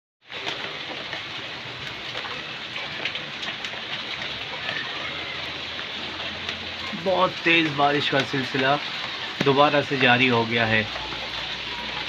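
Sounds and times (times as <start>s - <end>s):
raindrops ticking close by: 0.2s - 12.0s
heavy rain hissing: 0.3s - 12.0s.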